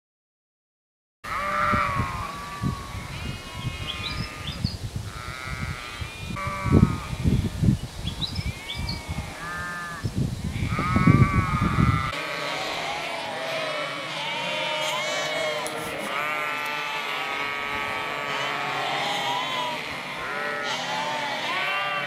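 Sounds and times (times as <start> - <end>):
sheep bleating: 1.3 - 7.5, 8.6 - 10.0, 10.6 - 22.0.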